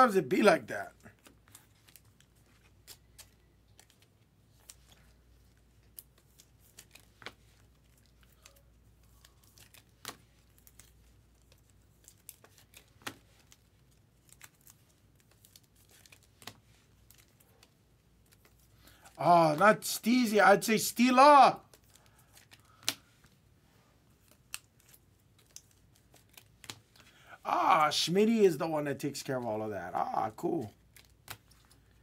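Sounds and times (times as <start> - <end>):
handling cards and plastic sleeves: 0.1 - 32.0.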